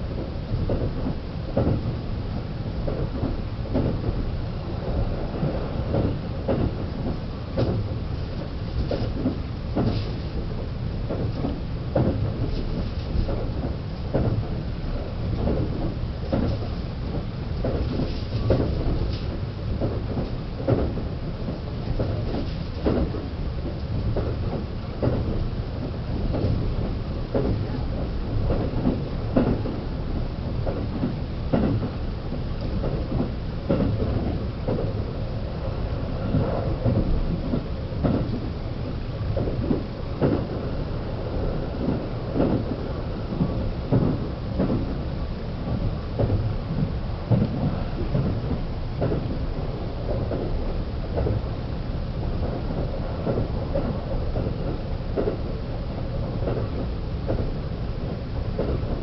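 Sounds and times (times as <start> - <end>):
wheels clacking over rail joints: 0.0 - 2.1, 2.8 - 59.0
train interior rumble: 0.0 - 59.0.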